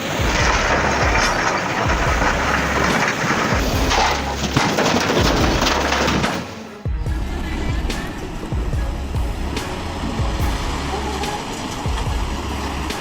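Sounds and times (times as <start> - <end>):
heavy vehicle engine rumble: 0.0 - 13.0
road noise: 0.0 - 13.0.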